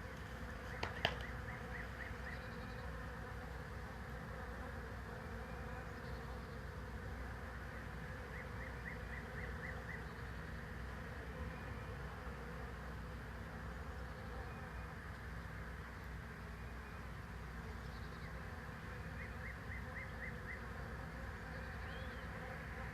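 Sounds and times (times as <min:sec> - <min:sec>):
bee swarm buzzing: 0:00.0 - 0:22.9.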